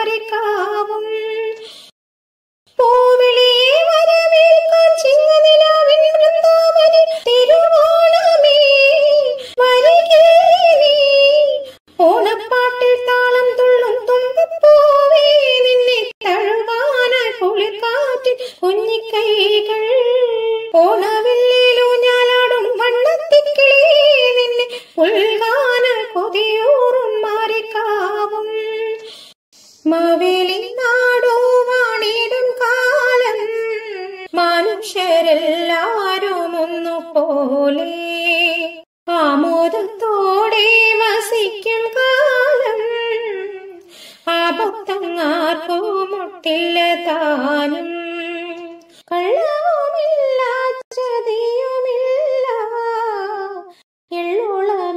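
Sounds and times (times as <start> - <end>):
woman singing: 0.0 - 1.8, 2.7 - 29.2, 29.8 - 54.9.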